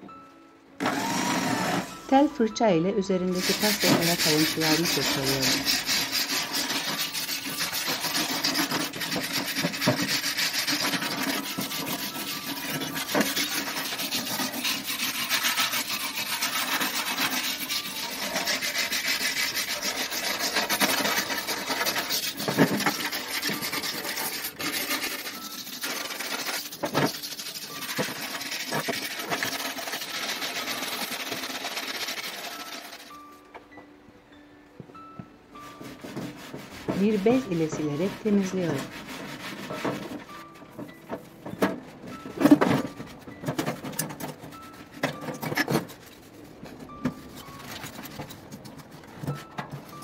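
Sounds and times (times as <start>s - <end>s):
wire brush scrubbing metal: 3.2s - 33.2s, 35.7s - 40.4s, 42.2s - 50.0s.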